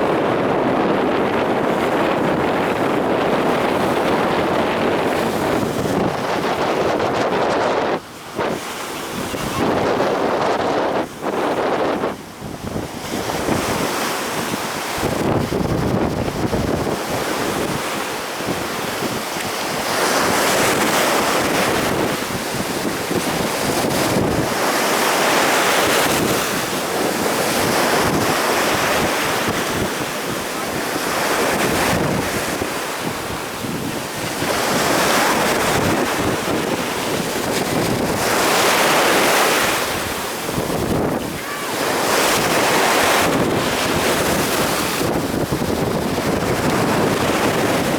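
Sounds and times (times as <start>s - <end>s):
waves breaking and rushing: 0.0s - 47.9s
wind buffeting microphone: 0.0s - 47.9s.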